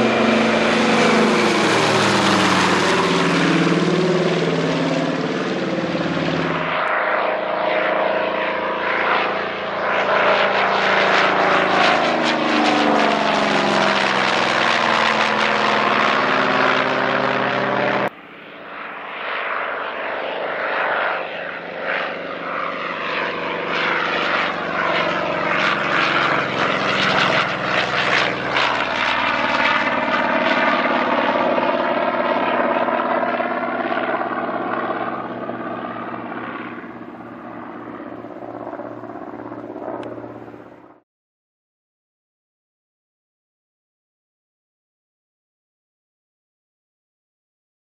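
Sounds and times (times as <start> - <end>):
propeller aircraft flying past: 0.0 - 41.0.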